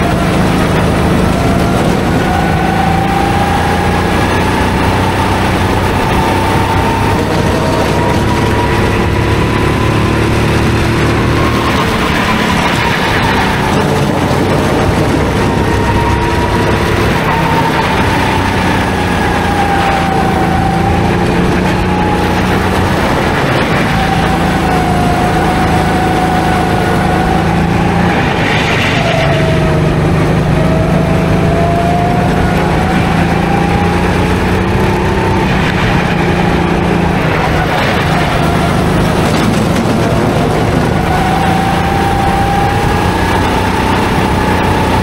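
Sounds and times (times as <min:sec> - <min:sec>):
go-kart motor running: 0:00.0 - 0:45.0.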